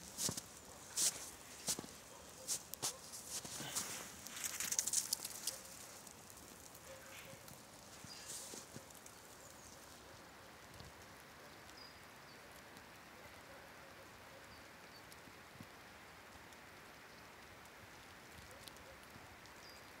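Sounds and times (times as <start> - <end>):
patter of falling wet snow: 0.0 - 20.0.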